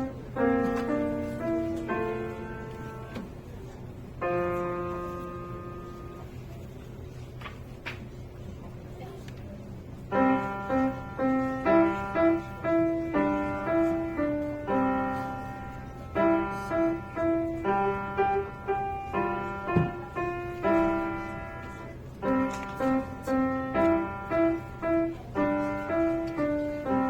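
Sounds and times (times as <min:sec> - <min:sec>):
piano melody: 0:00.0 - 0:06.6, 0:10.1 - 0:27.0.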